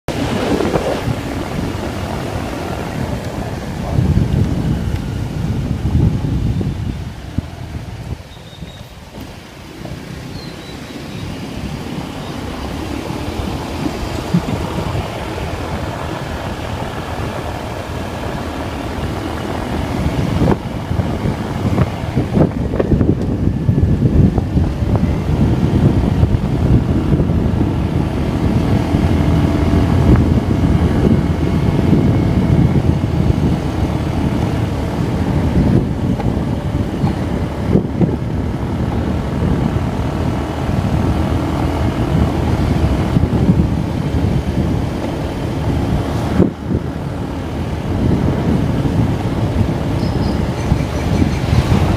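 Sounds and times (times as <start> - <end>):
wind rushing over microphone: 0.0 - 51.9
motorcycle engine running: 0.1 - 51.9.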